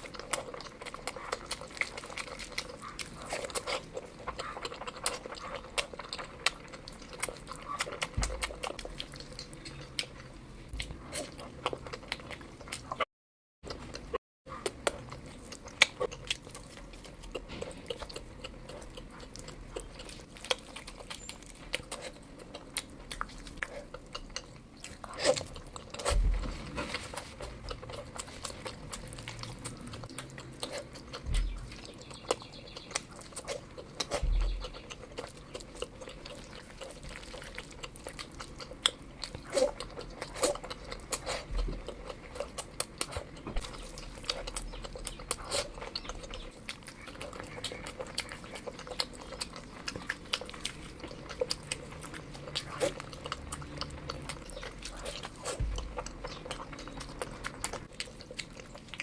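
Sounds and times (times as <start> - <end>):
person chewing food: 0.0 - 13.1, 13.7 - 59.0.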